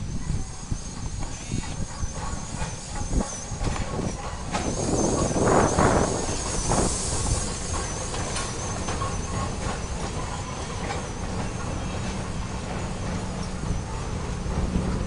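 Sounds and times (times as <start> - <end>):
steam locomotive chuff: 0.0 - 15.0
wheels rumbling on track: 0.0 - 15.0.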